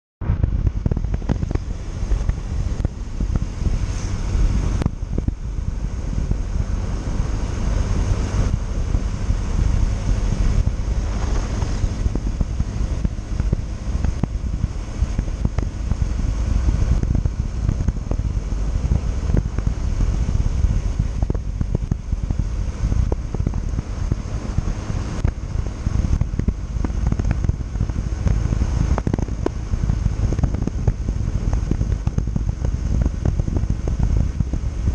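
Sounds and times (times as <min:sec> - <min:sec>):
motorcycle engine running: 0:00.2 - 0:34.9
wind buffeting microphone: 0:00.2 - 0:34.9.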